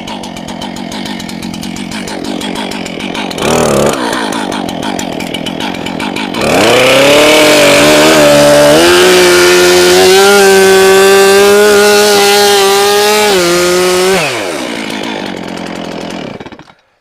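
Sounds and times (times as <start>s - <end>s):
chainsaw engine revving: 0.0s - 16.8s
chainsaw cutting wood: 0.0s - 17.0s.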